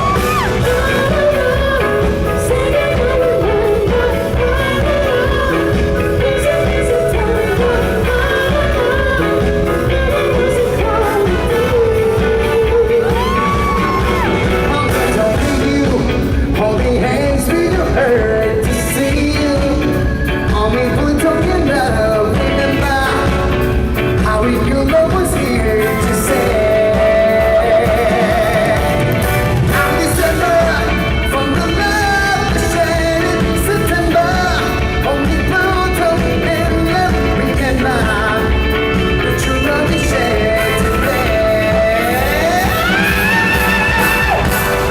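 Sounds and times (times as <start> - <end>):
person singing: 0.0 - 44.9
pop backing track: 0.0 - 44.9.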